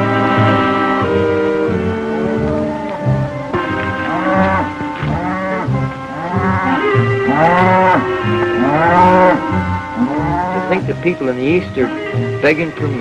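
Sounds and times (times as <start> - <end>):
cattle mooing and bawling: 0.0 - 11.0
background music: 0.0 - 13.0.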